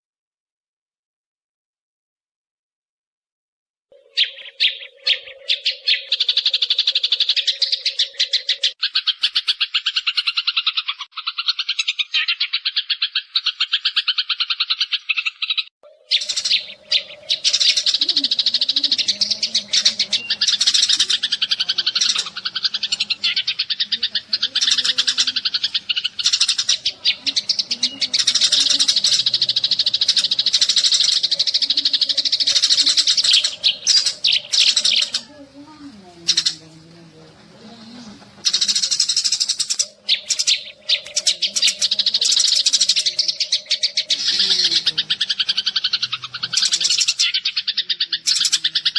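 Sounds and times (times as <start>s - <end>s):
sparrows chirping: 3.9s - 48.9s.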